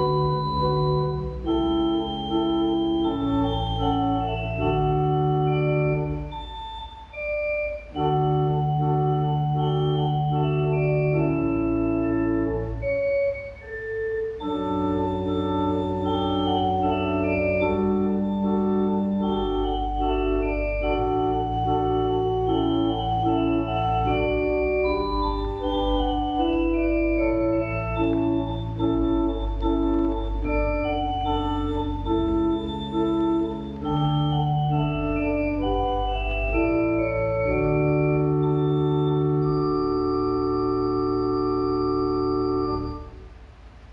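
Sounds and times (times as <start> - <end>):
organ chords: 0.0 - 43.4.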